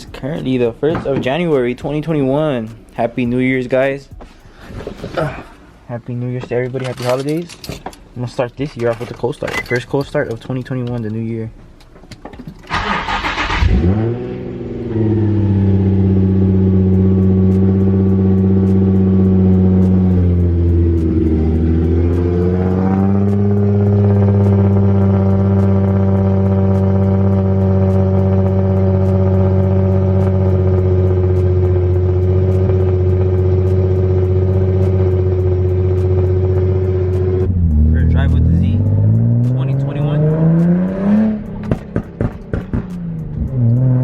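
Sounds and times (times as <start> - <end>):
car engine starting and idling: 0.0 - 44.0.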